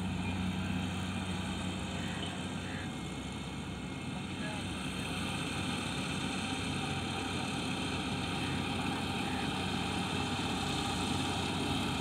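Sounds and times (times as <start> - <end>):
harvester engine droning: 0.0 - 12.0.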